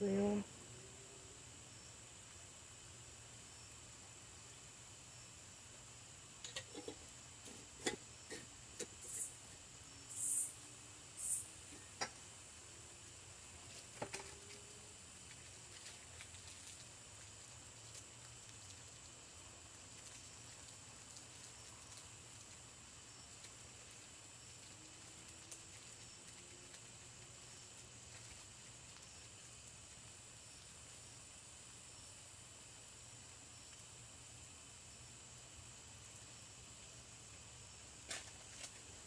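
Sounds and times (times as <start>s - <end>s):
faint steady hiss: 0.0s - 39.0s.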